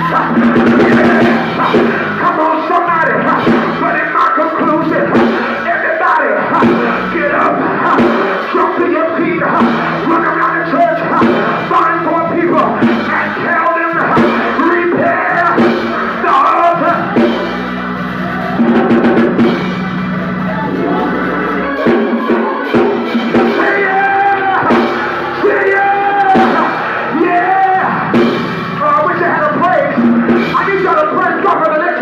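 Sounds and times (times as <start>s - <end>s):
church band music: 0.0s - 32.0s
drums: 0.0s - 32.0s
voices singing: 0.0s - 32.0s.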